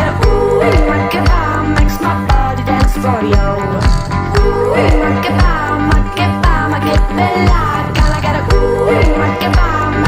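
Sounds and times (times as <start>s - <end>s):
song with steady beat: 0.0s - 10.0s
sung melody: 0.0s - 10.0s
kick drum: 0.2s - 9.8s.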